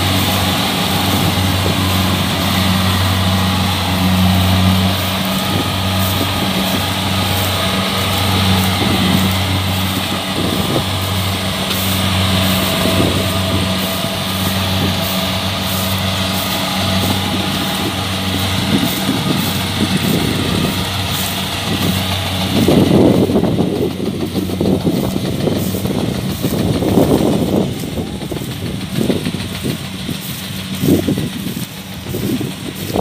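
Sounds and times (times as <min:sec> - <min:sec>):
diesel engine droning: 0:00.0 - 0:33.0
threshing machinery rushing: 0:00.0 - 0:33.0.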